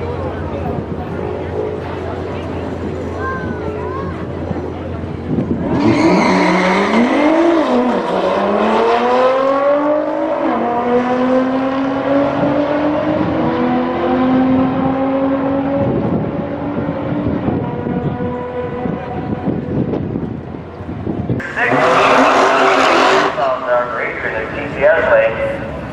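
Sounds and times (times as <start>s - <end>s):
car engine accelerating hard: 0.0s - 24.7s.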